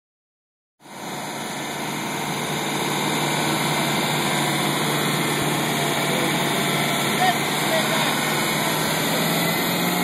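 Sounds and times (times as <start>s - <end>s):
engine idling: 0.8s - 10.0s.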